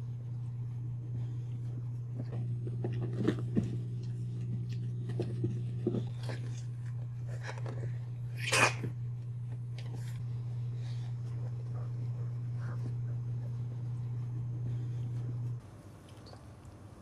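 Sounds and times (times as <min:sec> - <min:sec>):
steady low hum: 0:00.0 - 0:17.0
puppies snuffling and scuffing: 0:01.2 - 0:15.6.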